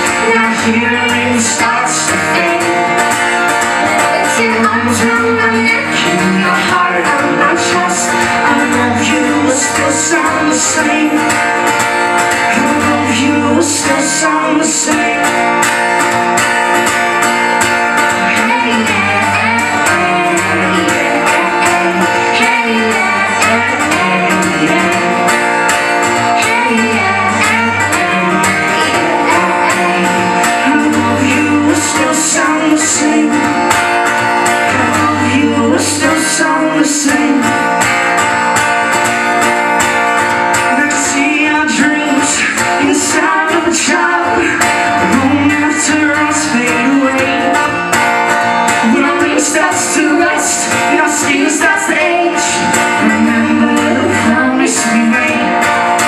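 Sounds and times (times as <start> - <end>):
person singing: 0.0 - 15.6, 17.9 - 37.8, 40.6 - 56.0
bass: 0.0 - 56.0
strummed guitar: 0.0 - 56.0.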